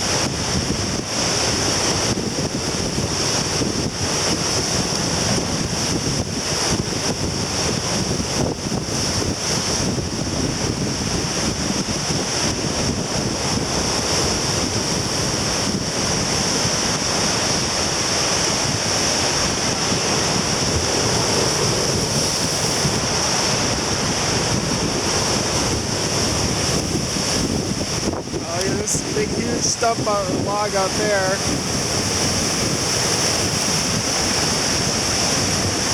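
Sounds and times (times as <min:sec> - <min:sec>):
surf breaking on a beach: 0:00.0 - 0:35.9
wind buffeting microphone: 0:00.0 - 0:35.9.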